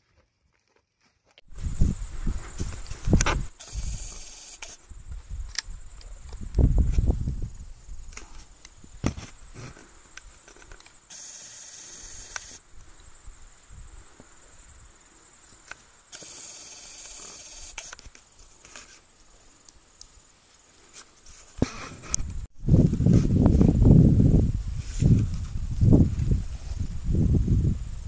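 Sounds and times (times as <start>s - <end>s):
high buzzing hiss: 1.5s - 28.0s.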